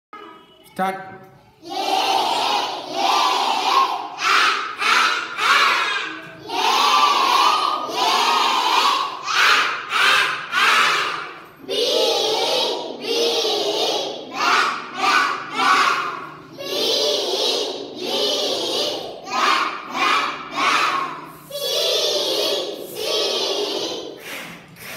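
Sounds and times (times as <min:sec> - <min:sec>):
children chanting in unison: 0:01.6 - 0:24.9.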